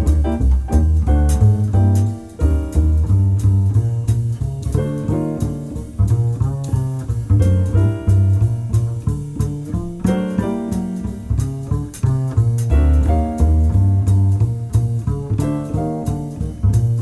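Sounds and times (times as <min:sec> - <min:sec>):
instrumental background music: 0:00.0 - 0:17.0
light percussion hits: 0:00.0 - 0:17.0
plucked chords: 0:00.0 - 0:17.0
steady bass line: 0:00.0 - 0:17.0.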